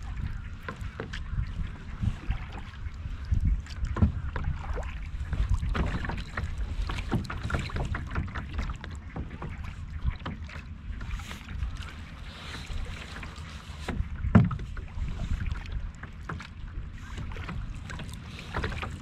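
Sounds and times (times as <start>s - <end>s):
water lapping against kayak hull: 0.0s - 19.0s
wind on microphone: 0.0s - 19.0s.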